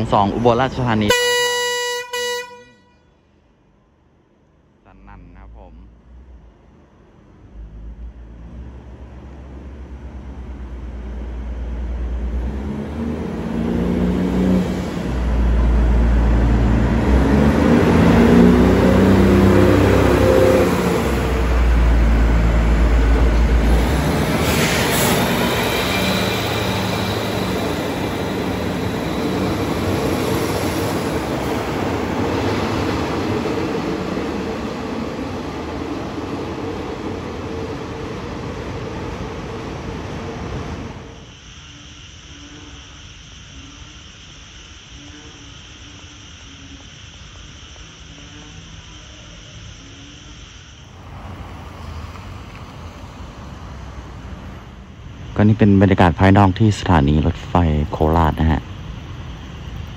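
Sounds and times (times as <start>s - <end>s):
diesel railcar train passing: 0.0s - 43.8s, 49.6s - 59.9s.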